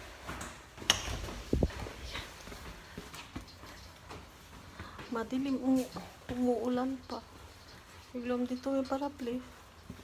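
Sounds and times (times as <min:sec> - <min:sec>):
light footsteps: 0:00.0 - 0:10.0.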